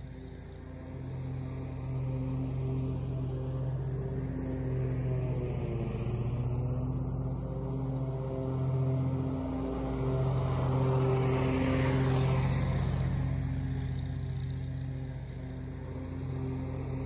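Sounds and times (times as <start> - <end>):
mower engine running: 0.0 - 17.0
mower mulching dry leaves: 0.0 - 17.0.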